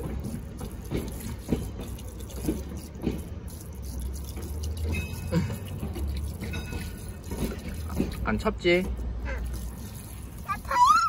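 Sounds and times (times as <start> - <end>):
water spraying on feet and pavement: 0.0 - 11.0.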